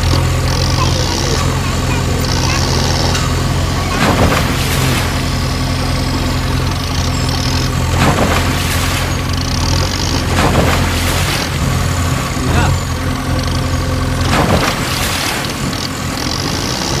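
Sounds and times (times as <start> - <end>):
heavy engine idling hum: 0.0 - 17.0.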